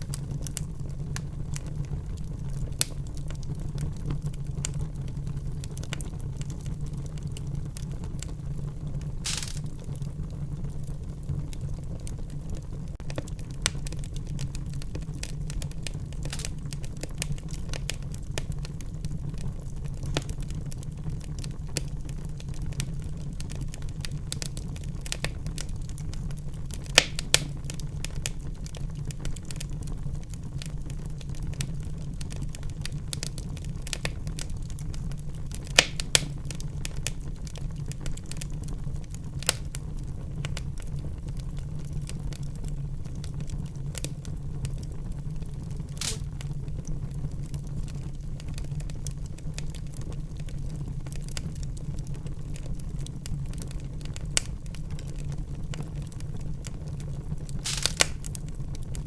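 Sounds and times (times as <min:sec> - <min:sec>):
loud fire pops: 0:00.0 - 0:59.0
low rumble of flames: 0:00.0 - 0:59.0
wood fire crackling: 0:00.0 - 0:59.0.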